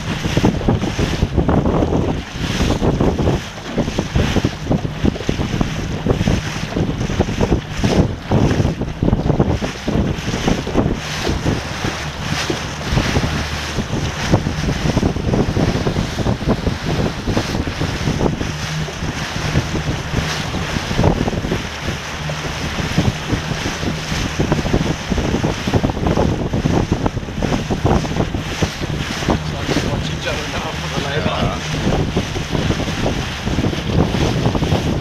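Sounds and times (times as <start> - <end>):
water splashing around boat: 0.0 - 35.0
wind buffeting microphone: 0.0 - 35.0.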